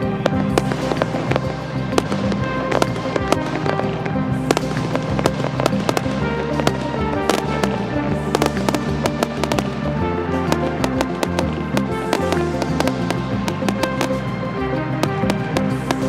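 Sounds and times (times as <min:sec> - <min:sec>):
music playing: 0:00.0 - 0:16.0
fireworks bangs and crackles: 0:00.2 - 0:03.8, 0:04.5 - 0:09.8, 0:10.4 - 0:16.0.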